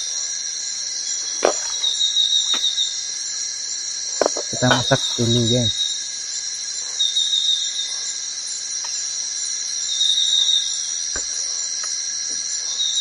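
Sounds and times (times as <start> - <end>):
forest insects chorus: 0.0 - 13.0.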